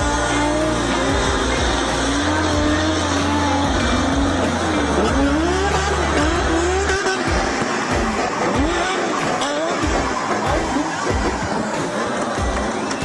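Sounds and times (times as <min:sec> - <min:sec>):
engine revving: 0:00.0 - 0:13.0
music with stepping bass line: 0:00.0 - 0:13.0.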